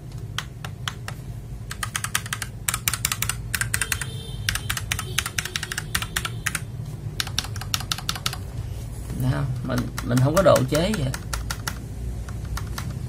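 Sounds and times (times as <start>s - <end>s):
mechanical keyboard typing: 0.1s - 8.5s, 9.6s - 13.0s.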